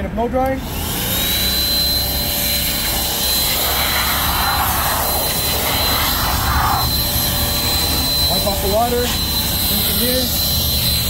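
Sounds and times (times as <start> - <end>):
electric blower whining: 0.6 - 11.0.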